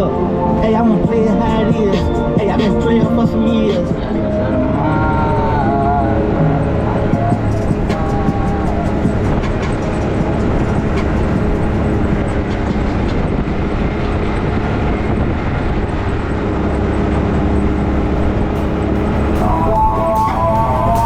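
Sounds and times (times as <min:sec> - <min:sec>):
atv engine rumbling: 0:00.0 - 0:21.0.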